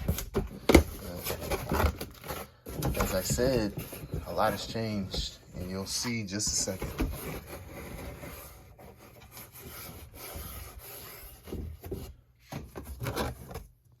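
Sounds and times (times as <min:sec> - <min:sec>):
rubbing and scraping handling noise: 0:00.0 - 0:14.0.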